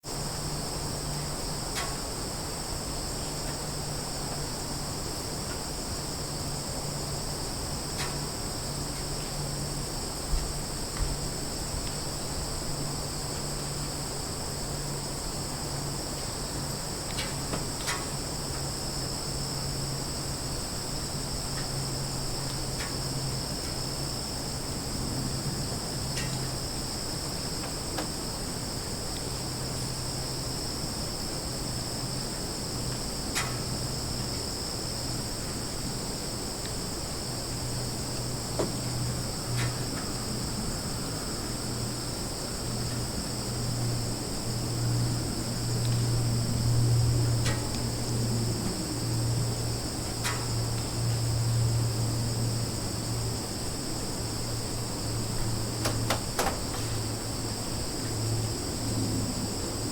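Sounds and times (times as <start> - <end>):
crickets and insects chorus: 0.0 - 59.9.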